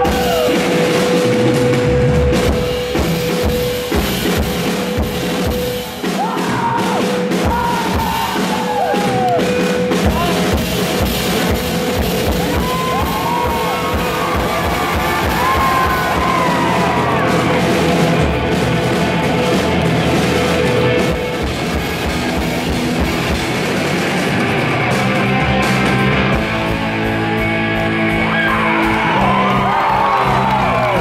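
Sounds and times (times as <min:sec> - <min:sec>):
drum kit: 0:00.0 - 0:31.0
electric guitar: 0:00.0 - 0:31.0.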